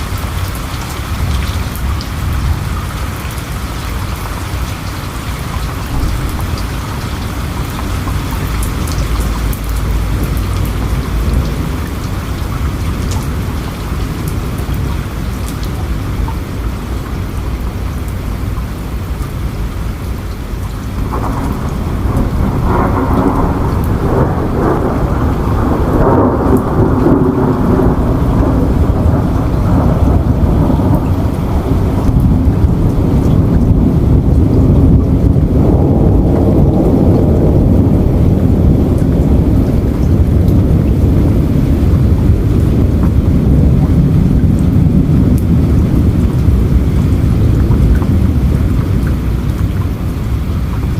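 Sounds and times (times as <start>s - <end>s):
rumble of thunder: 0.0s - 50.9s
steady rain falling: 0.0s - 50.9s.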